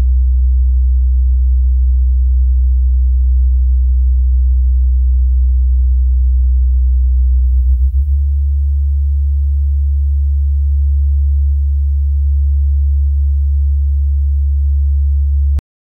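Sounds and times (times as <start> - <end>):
low electrical hum: 0.0 - 15.6.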